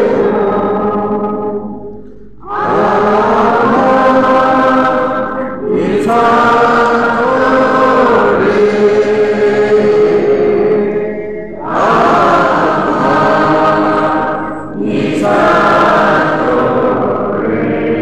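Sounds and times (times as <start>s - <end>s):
congregation singing a hymn: 0.0s - 18.0s.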